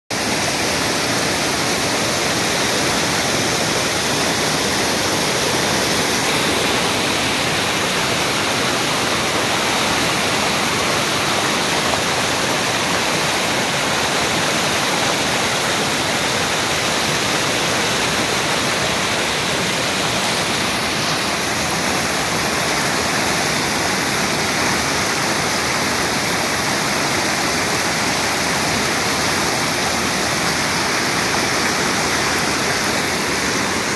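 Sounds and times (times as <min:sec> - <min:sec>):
stream rushing over boulders: 0:00.1 - 0:33.9.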